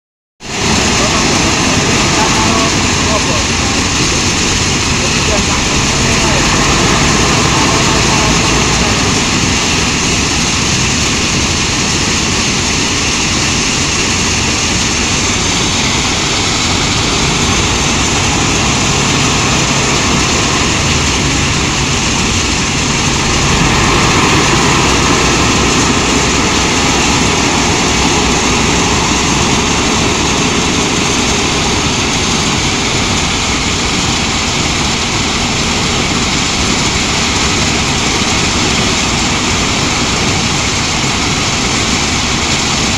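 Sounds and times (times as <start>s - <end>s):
diesel engine working: 0.4s - 42.9s
gravel conveyor: 0.4s - 42.9s
stone crusher running: 0.6s - 38.2s.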